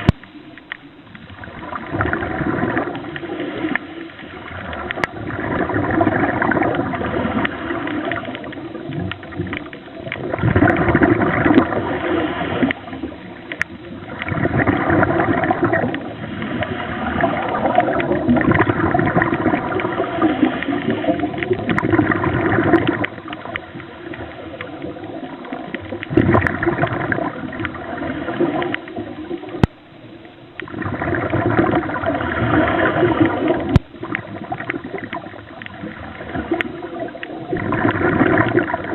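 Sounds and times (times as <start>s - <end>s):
gurgling exhaled bubbles: 1.1s - 38.9s.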